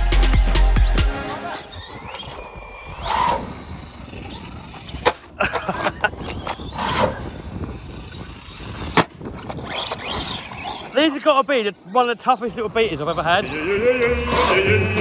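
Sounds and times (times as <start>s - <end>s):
rc truck motor whine: 1.4s - 5.3s, 6.1s - 15.0s.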